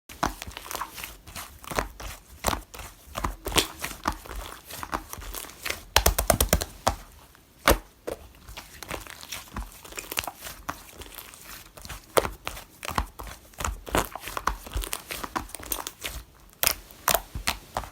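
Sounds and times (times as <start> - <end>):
slime squishing with sticky pops: 0.1 - 17.9.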